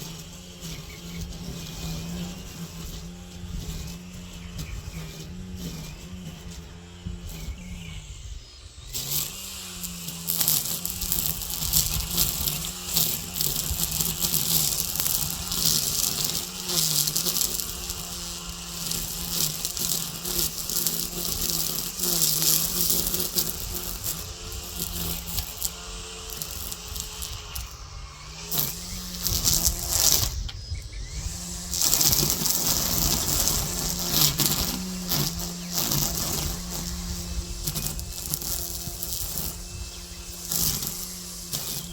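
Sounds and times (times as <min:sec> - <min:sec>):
string trimmer engine buzzing: 0:00.0 - 0:41.9
trimmer line cutting weeds: 0:00.0 - 0:41.9.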